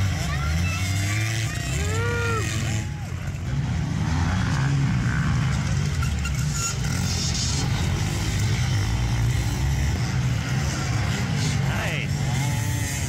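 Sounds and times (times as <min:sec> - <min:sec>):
dirt bike engines droning: 0:00.0 - 0:13.0.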